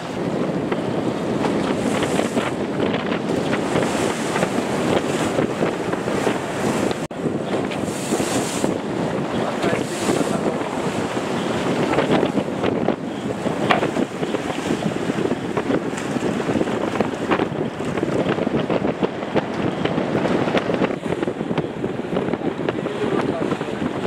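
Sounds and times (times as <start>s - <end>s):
water splashes: 0.0s - 21.2s
water rushing past hull: 0.0s - 24.0s
wind buffeting microphone: 0.0s - 24.0s.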